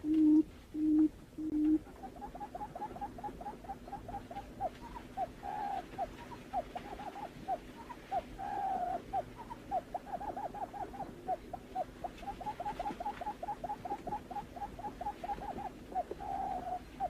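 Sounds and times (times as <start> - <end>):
buttonquail hooting calls: 0.0 - 17.0
steady low hum: 0.0 - 17.0.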